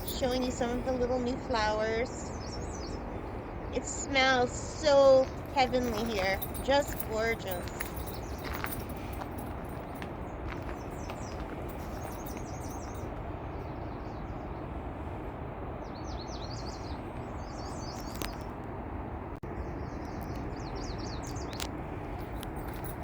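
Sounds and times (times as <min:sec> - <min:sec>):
low background rumble: 0:00.0 - 0:23.0
songbirds chirping: 0:00.0 - 0:23.0.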